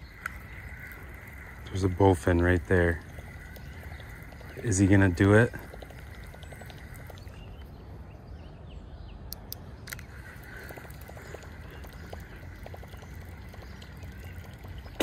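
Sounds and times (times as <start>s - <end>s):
faint ticks: 0.0s - 7.4s, 9.3s - 15.0s.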